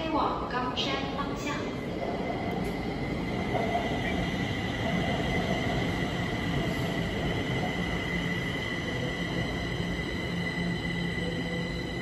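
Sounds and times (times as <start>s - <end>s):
train wheels rumbling on rail: 0.8s - 12.0s.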